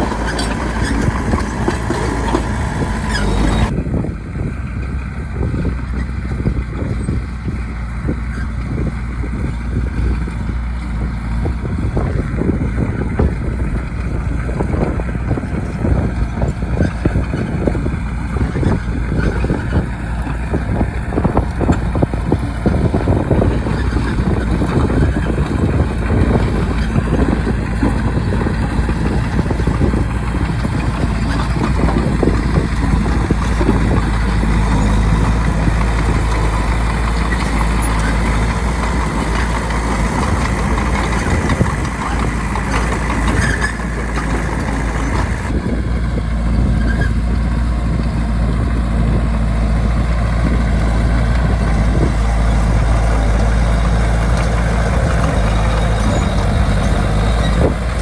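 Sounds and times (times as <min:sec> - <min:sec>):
bulldozer engine under load: 0:00.0 - 0:58.0.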